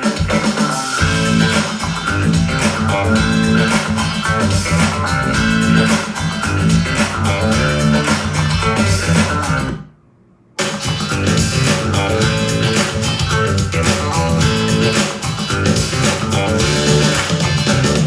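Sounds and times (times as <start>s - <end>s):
guitar music with heavy bass: 0.0s - 9.8s, 10.6s - 18.0s.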